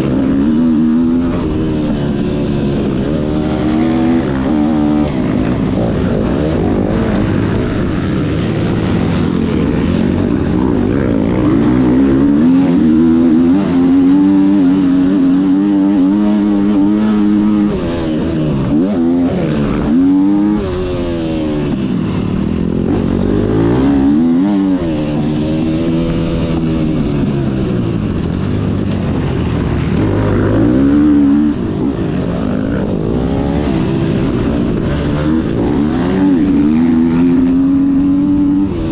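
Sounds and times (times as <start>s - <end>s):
motocross motorcycle engine revving: 0.0s - 38.9s.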